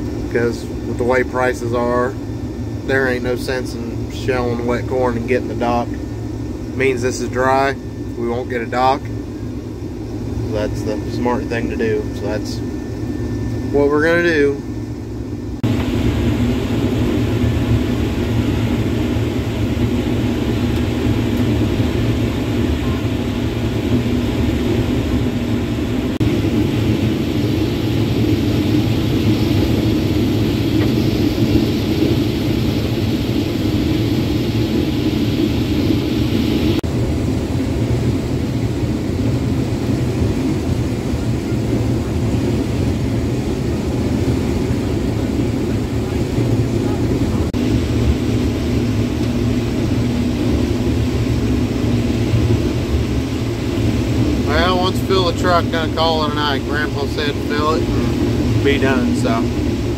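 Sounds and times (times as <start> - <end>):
combine engine and threshing drone: 0.0 - 59.9.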